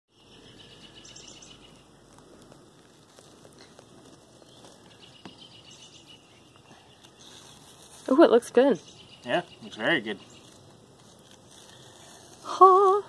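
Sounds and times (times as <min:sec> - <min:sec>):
chirping insects: 0:00.1 - 0:13.0.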